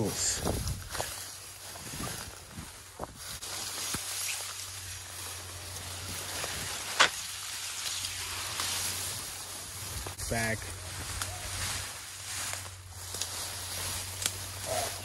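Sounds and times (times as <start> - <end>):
grass and brush rustling: 0.0 - 15.0.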